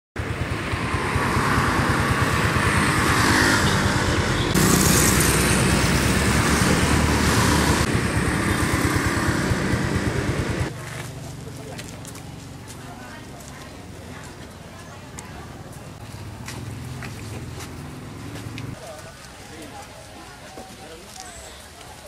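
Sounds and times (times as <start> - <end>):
road traffic passing: 0.2 - 22.0.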